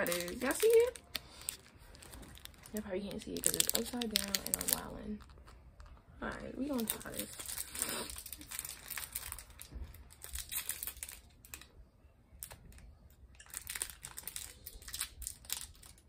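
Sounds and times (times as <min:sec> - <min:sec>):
plastic wrapper crinkling: 0:00.0 - 0:11.8, 0:12.4 - 0:16.0.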